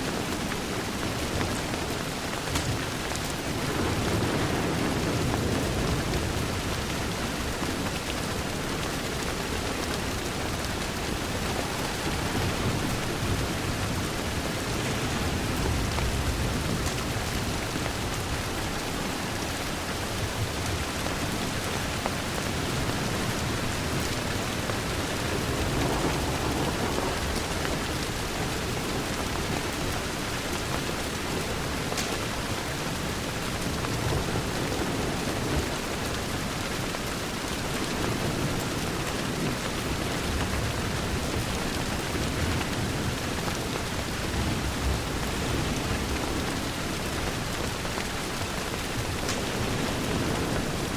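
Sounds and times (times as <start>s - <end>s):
rain pattering on window: 0.0s - 50.9s
wood fire crackles: 0.2s - 50.9s.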